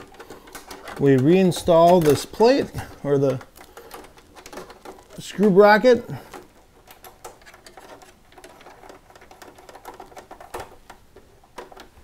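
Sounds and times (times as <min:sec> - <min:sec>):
screwdriver ticks and scrapes: 0:00.0 - 0:12.0.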